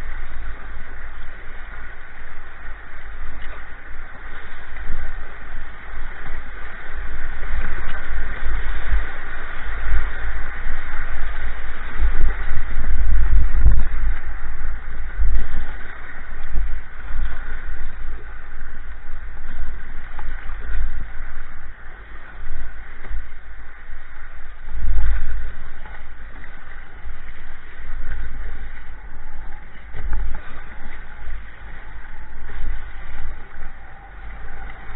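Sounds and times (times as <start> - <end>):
heavy low rumble: 0.0 - 34.9
river water rushing and splashing: 0.0 - 34.9.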